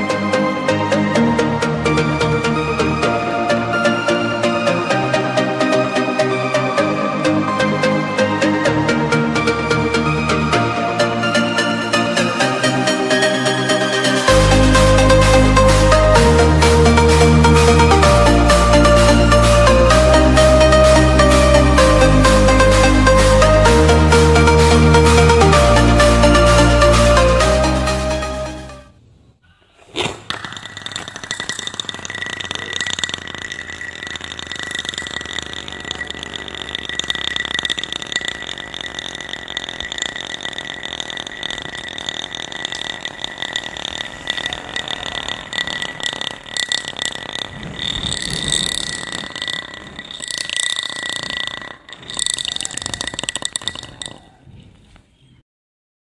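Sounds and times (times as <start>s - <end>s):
spinning top whirring on concrete: 0.0s - 26.7s, 29.8s - 54.4s.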